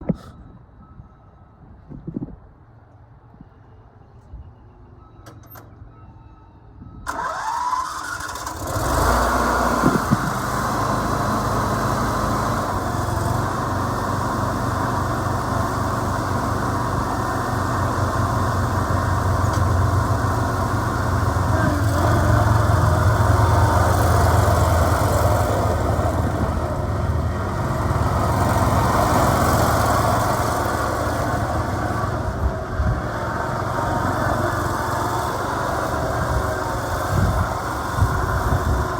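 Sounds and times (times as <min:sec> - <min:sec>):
mower engine starting and running: 0:07.1 - 0:38.9.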